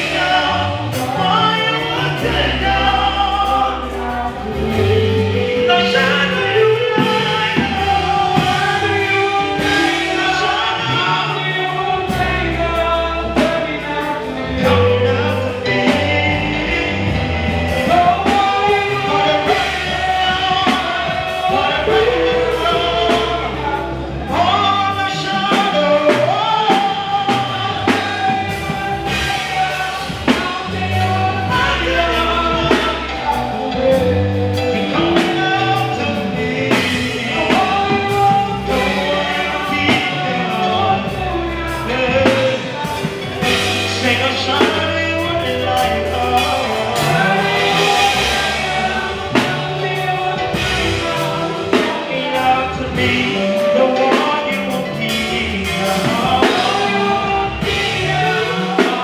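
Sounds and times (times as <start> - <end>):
backing singers: 0.0 - 59.0
band with drums: 0.0 - 59.0
man singing lead: 0.0 - 59.0.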